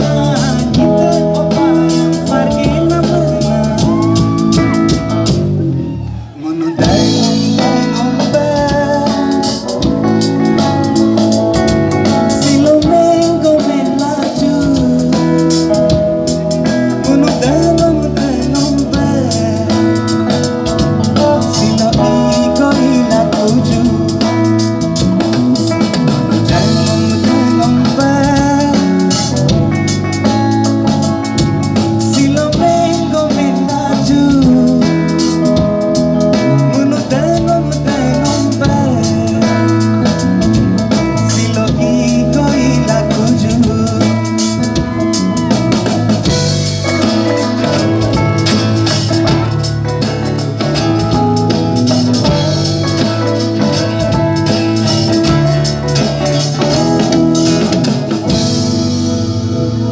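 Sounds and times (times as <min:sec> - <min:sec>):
acoustic guitar: 0:00.0 - 0:59.9
drum kit: 0:00.0 - 0:59.9
electric bass: 0:00.0 - 0:59.9
man singing: 0:00.0 - 0:59.9.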